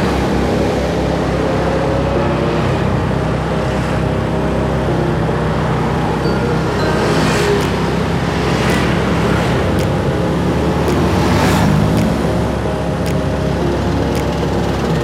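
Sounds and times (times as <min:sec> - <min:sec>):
motorcycle engine and road noise: 0:00.0 - 0:15.0
surrounding cars: 0:00.0 - 0:15.0.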